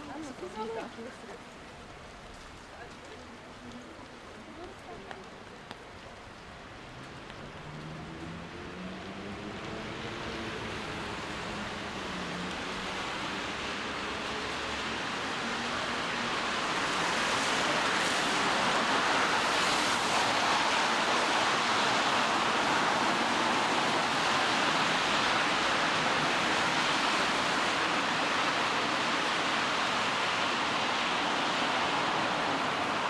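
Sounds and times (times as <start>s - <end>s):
rain hissing on street: 0.0s - 33.0s.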